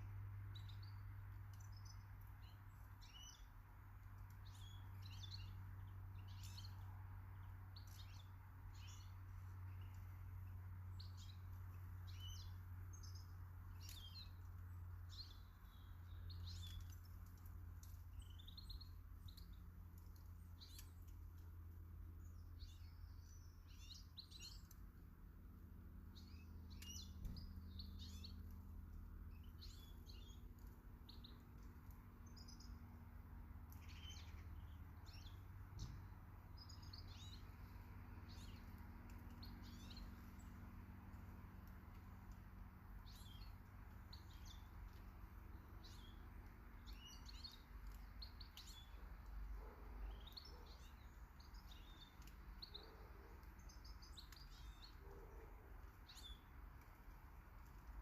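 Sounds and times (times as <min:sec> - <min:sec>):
faint low rumble: 0:00.0 - 0:58.0
small birds chirping and singing: 0:00.0 - 0:58.0.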